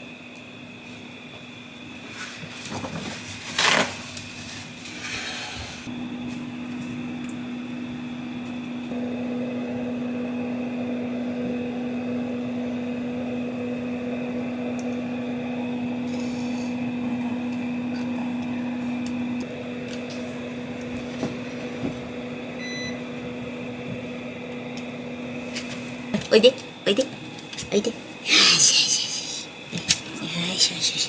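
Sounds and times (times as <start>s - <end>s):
appliance electric hum: 0.0s - 31.0s.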